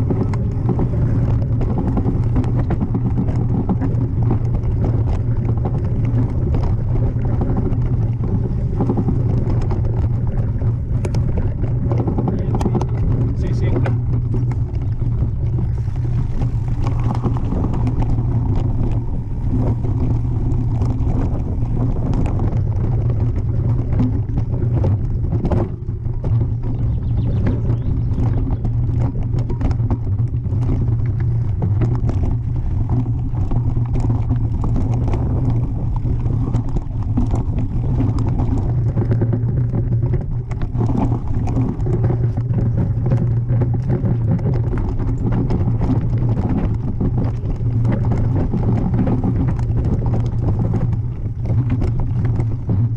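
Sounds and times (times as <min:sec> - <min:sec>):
bike vibration rumble: 0:00.0 - 0:52.9
tyres clicking and rattling over stones: 0:00.0 - 0:52.9.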